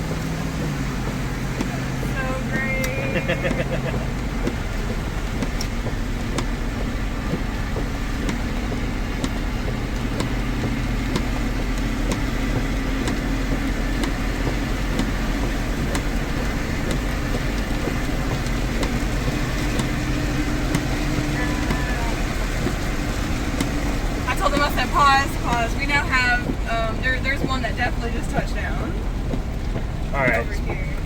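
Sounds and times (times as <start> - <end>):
car cabin road and engine noise: 0.0 - 31.0
faint ticking: 0.0 - 31.0.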